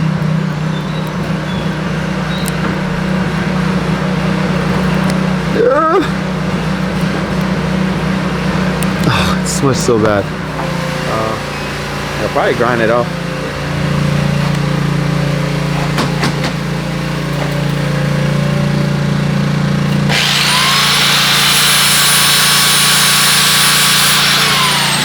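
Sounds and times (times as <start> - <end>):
power grinder grinding metal: 0.0 - 25.0.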